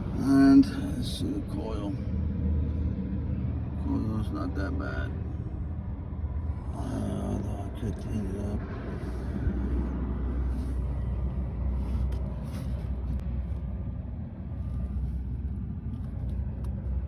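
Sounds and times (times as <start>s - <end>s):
heating unit blower rumbling: 0.0s - 17.0s.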